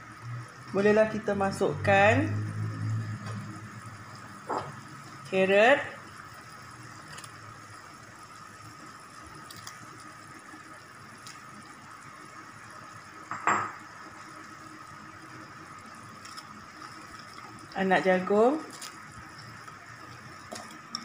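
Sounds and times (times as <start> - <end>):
broth bubbling in a pot: 0.0 - 21.0.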